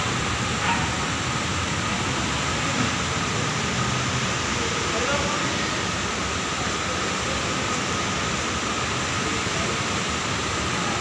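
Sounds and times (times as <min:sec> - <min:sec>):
steady rushing background noise: 0:00.0 - 0:11.0.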